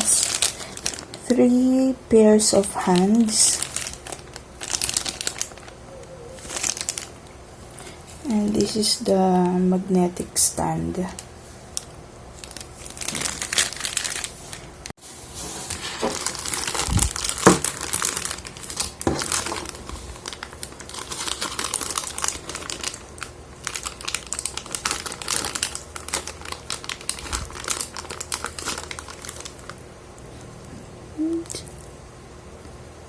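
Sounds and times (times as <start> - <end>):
plastic packaging crinkling: 0.0 - 29.9.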